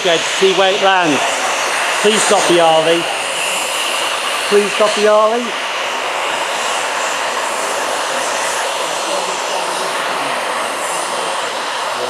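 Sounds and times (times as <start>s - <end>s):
loud hiss of steam: 0.0s - 12.0s.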